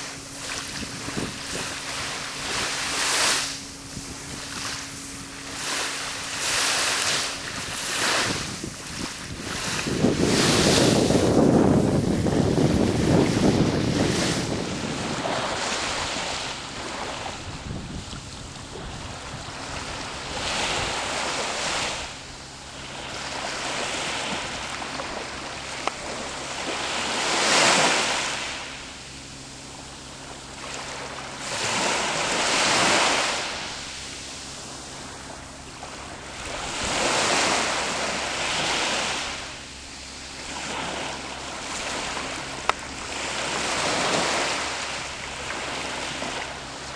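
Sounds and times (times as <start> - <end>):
small sea waves breaking: 0.0 - 46.9.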